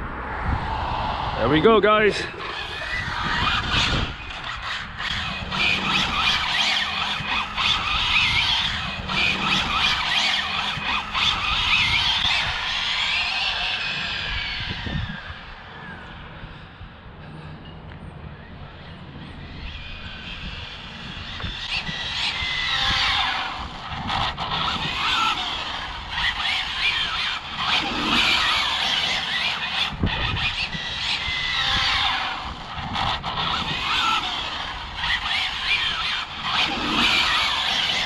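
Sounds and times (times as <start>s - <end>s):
rc car motor whine: 0.8s - 38.0s.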